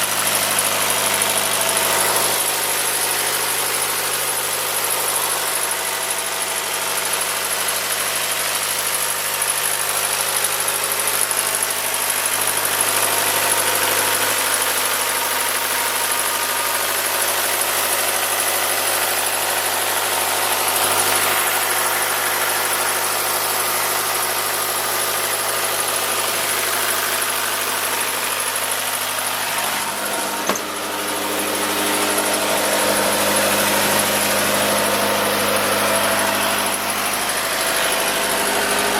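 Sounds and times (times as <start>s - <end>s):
diesel air compressor running: 0.0s - 38.9s.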